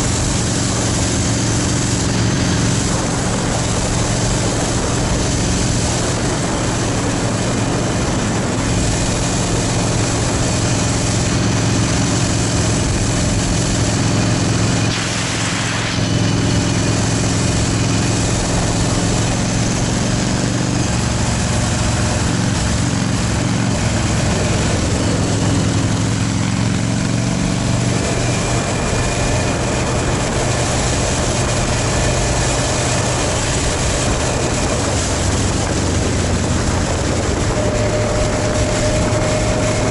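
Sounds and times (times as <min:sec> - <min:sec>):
motorcycle engine running: 0:00.0 - 0:39.9
rushing noise: 0:00.0 - 0:39.9.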